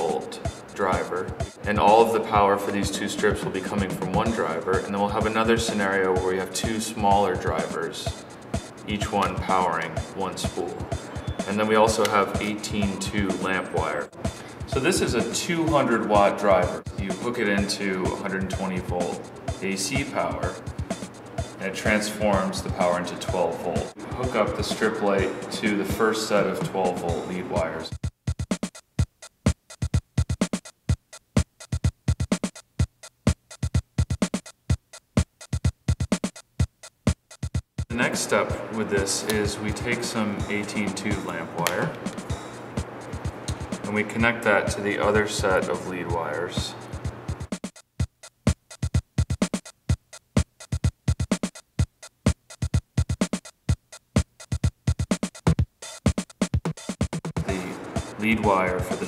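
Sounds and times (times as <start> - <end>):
electronic music with drum machine: 0.0 - 59.0.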